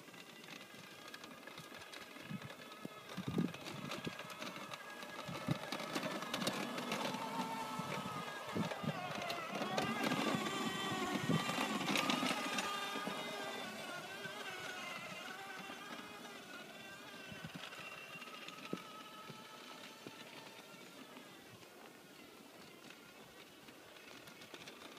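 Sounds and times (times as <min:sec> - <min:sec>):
toy quad bike motor whining: 0:00.0 - 0:24.9.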